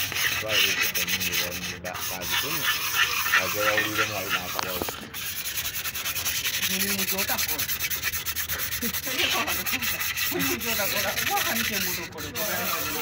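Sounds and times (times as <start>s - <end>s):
abrasive pad scrubbing metal: 0.0s - 13.0s.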